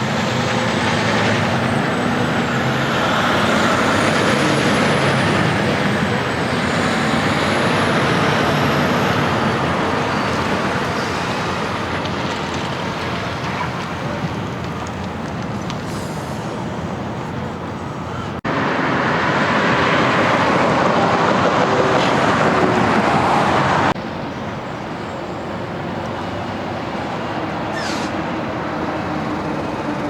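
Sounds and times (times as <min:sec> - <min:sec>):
highway traffic of big rigs passing: 0:00.0 - 0:30.0.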